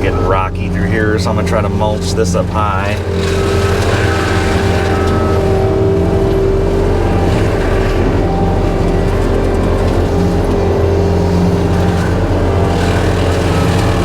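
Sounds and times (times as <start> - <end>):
diesel engine drone: 0.0 - 14.0
mulcher whine: 0.0 - 14.0.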